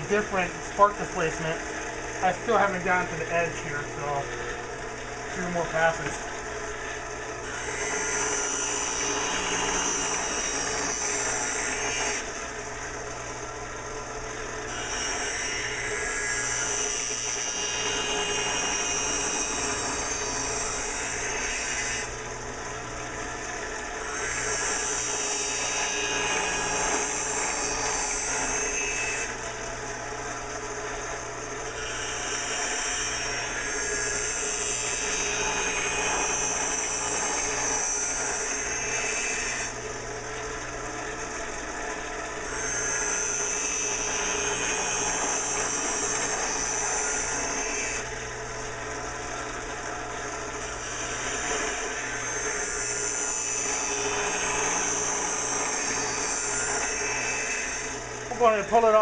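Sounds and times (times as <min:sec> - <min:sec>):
grinding wheel humming: 0:00.0 - 0:59.0.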